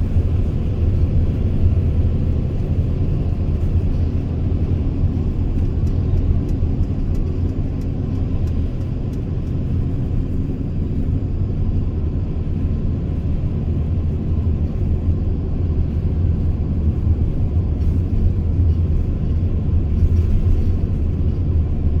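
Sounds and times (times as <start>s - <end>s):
van driving rumble: 0.0s - 22.0s.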